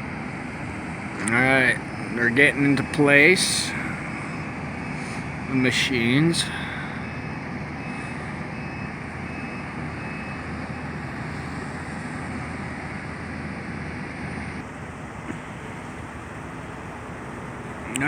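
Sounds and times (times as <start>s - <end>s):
heavy demolition machinery running: 0.0s - 17.4s.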